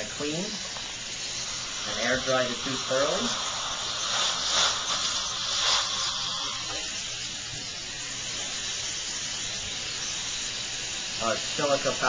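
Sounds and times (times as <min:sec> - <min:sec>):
dental suction tube hissing: 0:00.0 - 0:12.0
rush of air from air-drying: 0:00.0 - 0:12.0.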